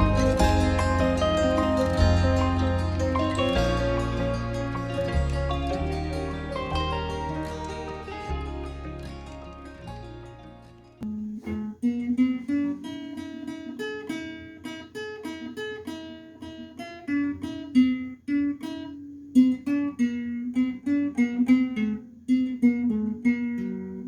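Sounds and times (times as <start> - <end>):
acoustic guitar plucked notes: 0.0 - 24.0.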